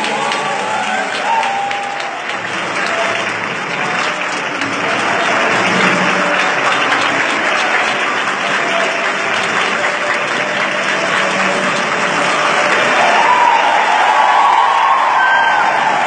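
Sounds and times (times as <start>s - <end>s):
congregation applauding: 0.0s - 16.0s.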